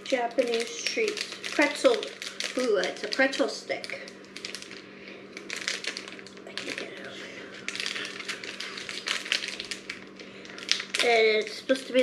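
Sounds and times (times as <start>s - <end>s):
pretzel sticks crunching: 0.0s - 12.0s.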